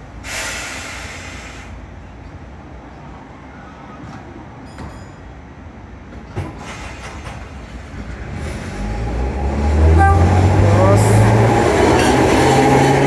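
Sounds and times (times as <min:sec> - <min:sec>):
tram motor and wheel noise: 0:00.0 - 0:13.0.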